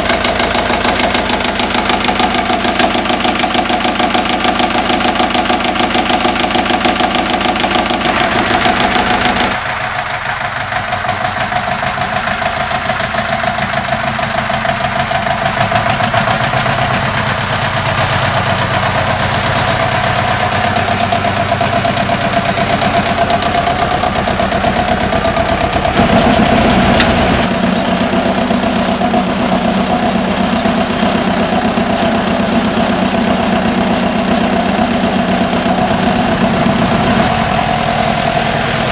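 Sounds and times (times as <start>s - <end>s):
tractor diesel engine knocking: 0.0s - 38.9s.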